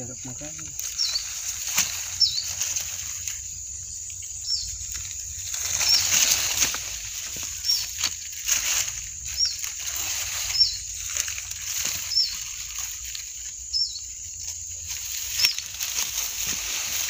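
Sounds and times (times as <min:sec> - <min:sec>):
high insect hiss: 0:00.0 - 0:17.0
rustles in dry leaves: 0:00.0 - 0:17.0.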